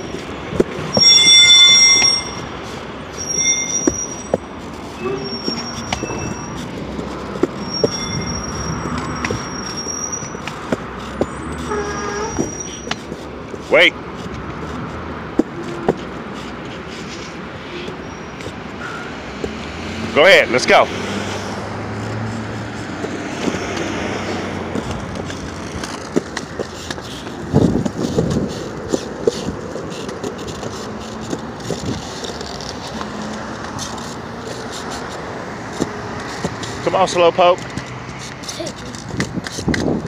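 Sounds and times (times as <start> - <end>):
road traffic: 0.0 - 40.0
scooter wheels rolling on concrete: 0.0 - 40.0.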